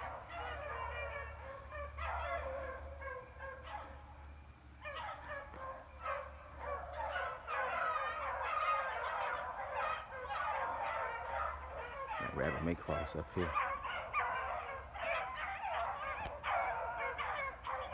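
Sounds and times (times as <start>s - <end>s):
hounds baying in chorus: 0.0s - 17.9s.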